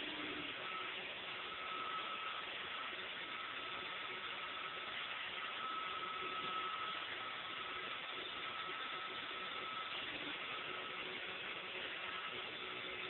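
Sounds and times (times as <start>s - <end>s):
high whine: 0.0s - 13.0s
robot vacuum whirring: 0.0s - 13.0s.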